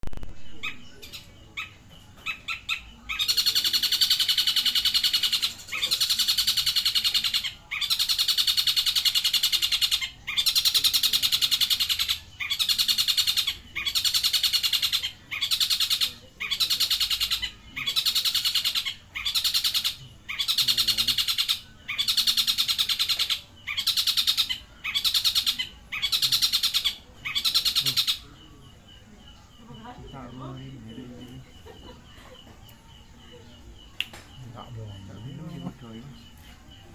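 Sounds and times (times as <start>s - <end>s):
bird rapid trill: 0.2s - 36.9s.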